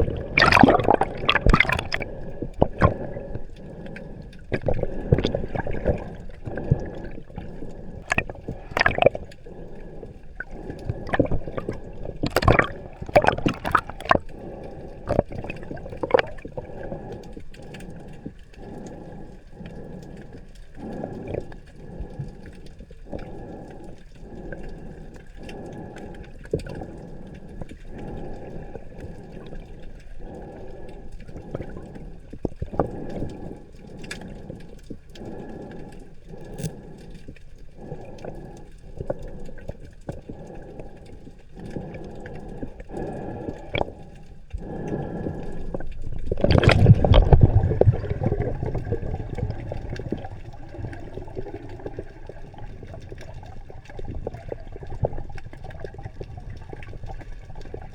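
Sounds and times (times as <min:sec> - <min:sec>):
underwater gurgling and bubbling: 0:00.0 - 0:57.9.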